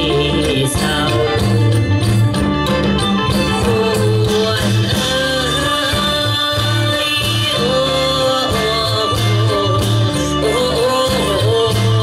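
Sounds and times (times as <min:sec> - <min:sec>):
folk music with pulsing bass: 0:00.0 - 0:12.0.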